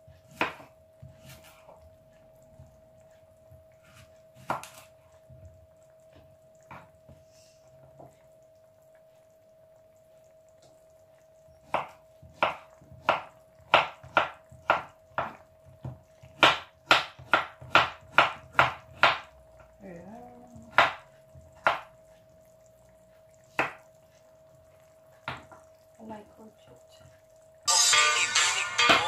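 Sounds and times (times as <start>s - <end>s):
faint steady hum: 0.0s - 16.5s, 18.6s - 29.0s.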